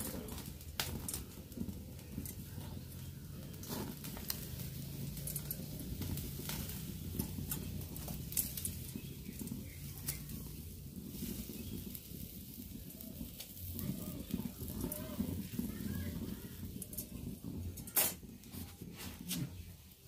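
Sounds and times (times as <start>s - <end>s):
charcoal crackling and popping: 0.0s - 20.0s.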